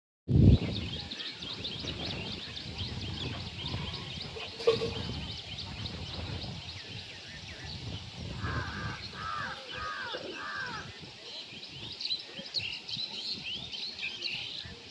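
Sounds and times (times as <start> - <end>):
small birds chirping: 0.4 - 14.9.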